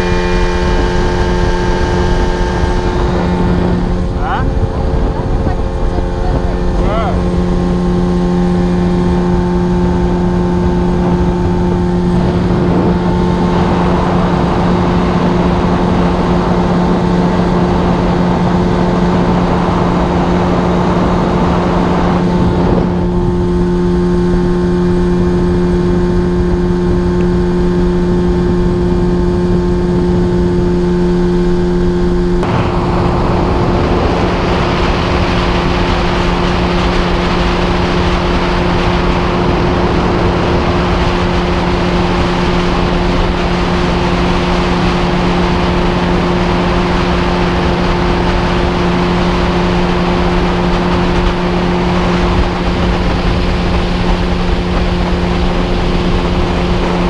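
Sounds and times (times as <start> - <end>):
outboard motor running: 0.0 - 57.0
rushing wind and water: 0.0 - 57.0.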